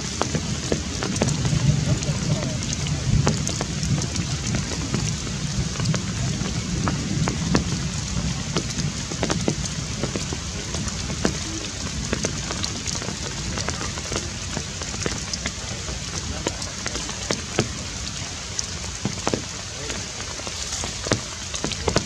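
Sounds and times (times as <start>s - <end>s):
drops ticking on leaves: 0.0s - 22.0s
rain falling through foliage: 0.0s - 22.0s.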